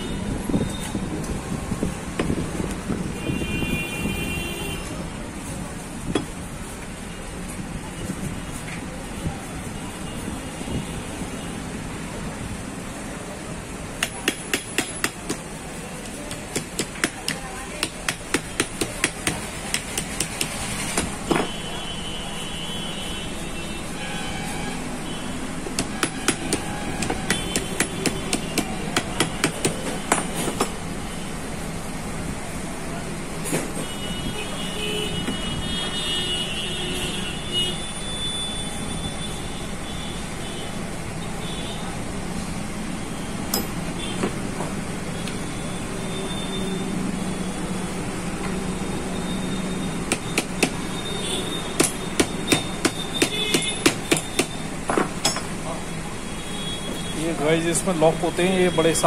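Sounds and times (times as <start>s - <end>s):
steady background noise: 0.0s - 59.0s.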